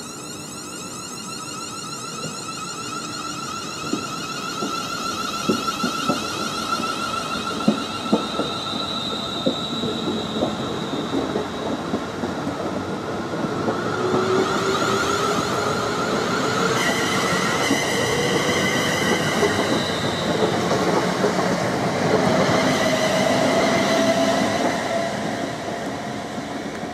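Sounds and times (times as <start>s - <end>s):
electric train motor whine: 0.0s - 26.9s.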